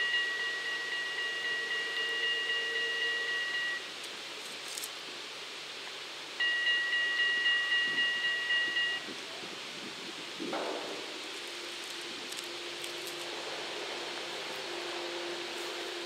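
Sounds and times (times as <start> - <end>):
bridge warning bells ringing: 0.0 - 4.0, 6.4 - 9.7, 10.4 - 16.0.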